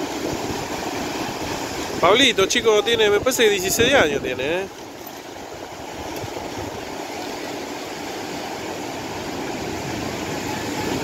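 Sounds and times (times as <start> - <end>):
surf breaking on beach: 0.0 - 11.0.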